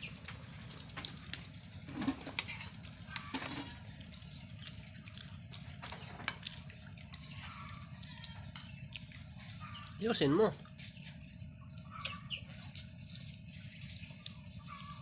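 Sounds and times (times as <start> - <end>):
chewing food: 0.0 - 15.0
steady low hum: 0.0 - 15.0.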